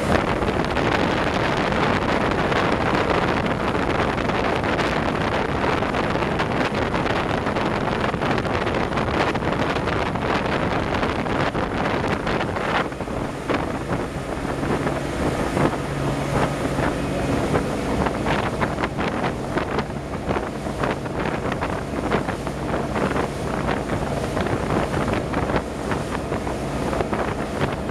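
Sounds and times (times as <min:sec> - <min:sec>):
motorboat engine drone: 0:00.0 - 0:27.9
water rushing: 0:00.0 - 0:27.9
wind buffeting microphone: 0:00.0 - 0:27.9.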